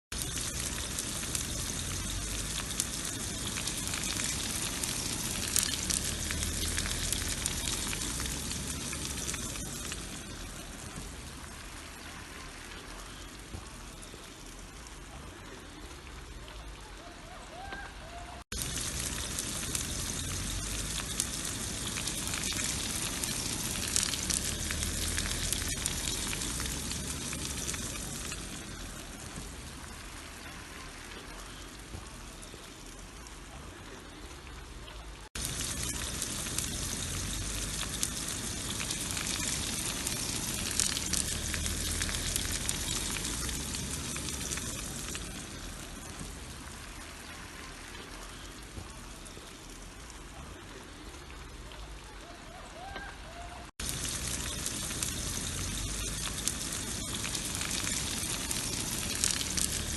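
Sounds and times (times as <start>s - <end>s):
meat sizzling in a frying pan: 0.1s - 14.8s, 18.5s - 33.6s, 35.3s - 50.9s, 53.7s - 59.9s.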